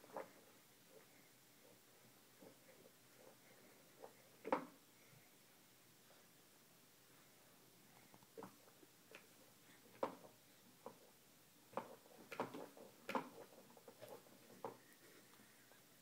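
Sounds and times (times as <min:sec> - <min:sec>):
soft irregular clicks and taps: 0:00.0 - 0:05.2, 0:07.9 - 0:15.9.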